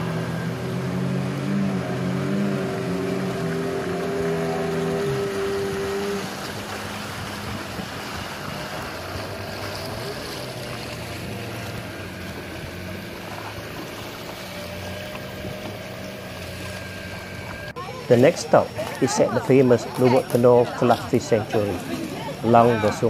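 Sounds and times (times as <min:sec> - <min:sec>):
outboard motors humming: 0:00.0 - 0:23.0
water rushing along hulls: 0:00.0 - 0:23.0.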